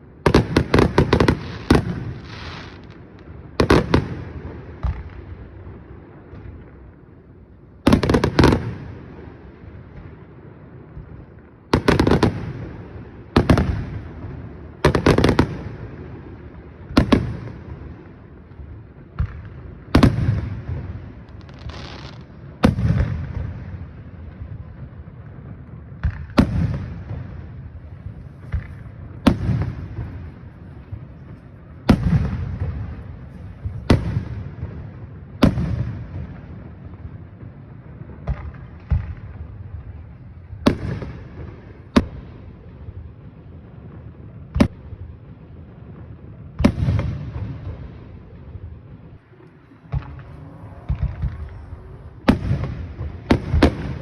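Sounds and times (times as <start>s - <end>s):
fireworks bursting with echo: 0.0s - 54.0s
fireworks crackling: 0.0s - 54.0s.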